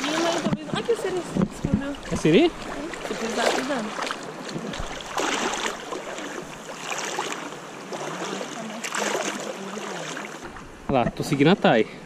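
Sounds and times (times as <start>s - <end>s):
legs wading through water: 0.0s - 10.7s.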